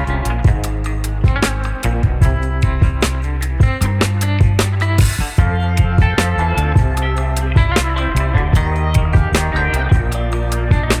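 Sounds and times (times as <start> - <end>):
pop song with guitar and beat: 0.0 - 11.0.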